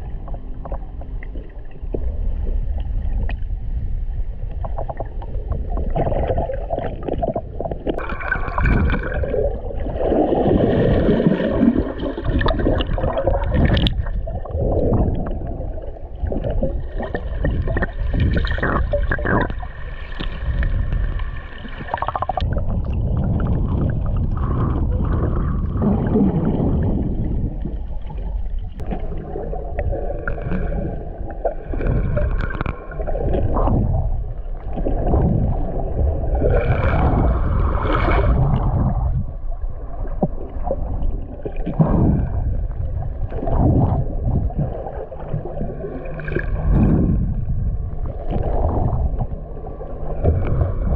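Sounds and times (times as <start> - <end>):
steady low rumble: 0.0 - 50.9
water sloshing and gurgling: 0.0 - 50.9.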